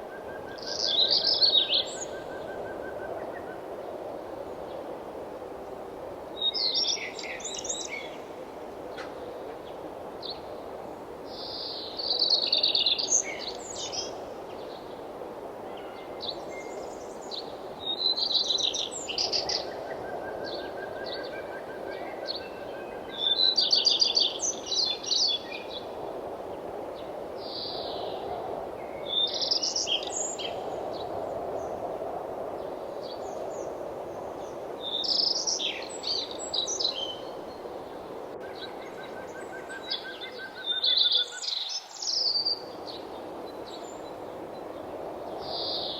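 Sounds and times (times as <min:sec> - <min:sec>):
songbirds singing: 0:00.2 - 0:03.5, 0:06.4 - 0:08.4, 0:09.0 - 0:15.1, 0:15.7 - 0:45.9.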